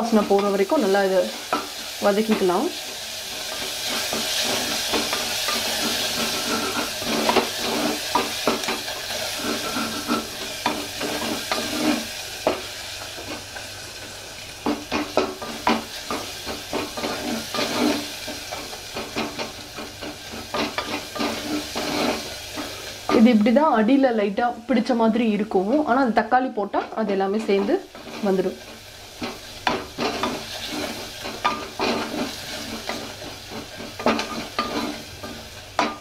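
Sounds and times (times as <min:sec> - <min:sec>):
onions sizzling in hot oil: 0:00.0 - 0:36.0
spatula scraping a pot: 0:00.2 - 0:13.7, 0:14.6 - 0:23.2, 0:27.5 - 0:36.0.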